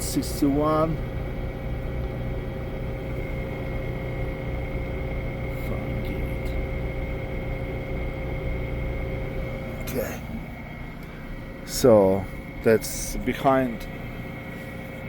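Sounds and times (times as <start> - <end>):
air conditioner hum and whine: 0.0 - 15.0.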